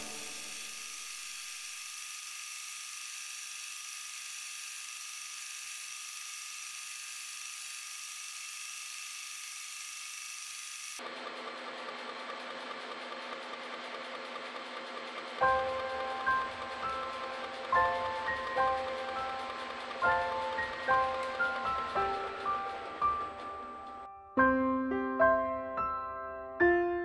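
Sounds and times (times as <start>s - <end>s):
drill bit ticks cutting metal: 0.0s - 24.0s
drill spindle whirring: 0.0s - 24.1s.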